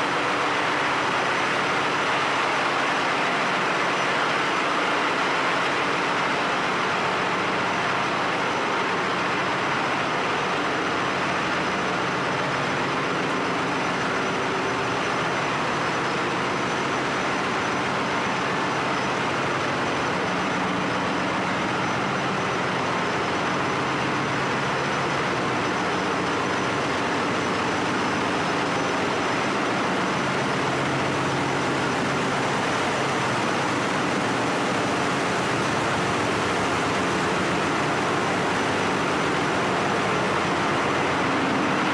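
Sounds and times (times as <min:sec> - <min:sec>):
engine-room machinery running: 0:00.0 - 0:41.9.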